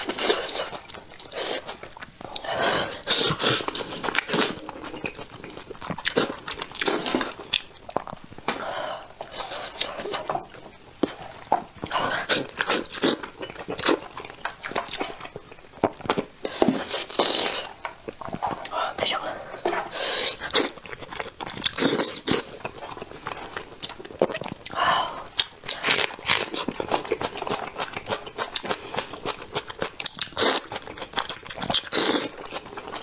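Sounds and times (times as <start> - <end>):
chewing and smacking: 0.0 - 8.6, 9.2 - 18.7, 19.6 - 33.0.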